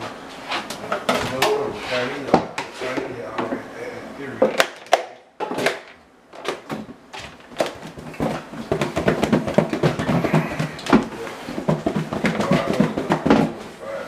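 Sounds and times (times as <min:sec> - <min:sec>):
busy kitchen background: 0:00.0 - 0:14.0.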